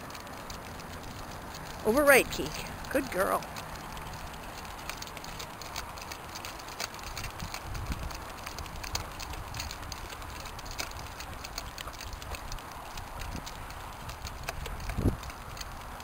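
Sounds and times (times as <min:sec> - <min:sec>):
cart rolling on road: 0:00.0 - 0:16.0
dog paws and nail clicks: 0:00.0 - 0:16.0.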